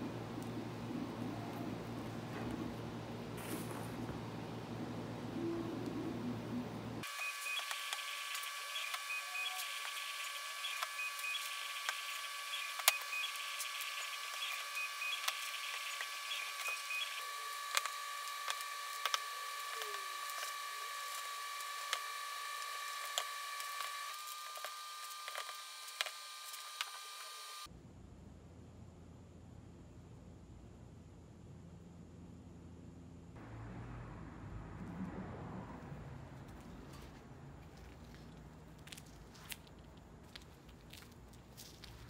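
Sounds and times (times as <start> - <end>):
steady high-pitched whine: 0.0 - 34.8.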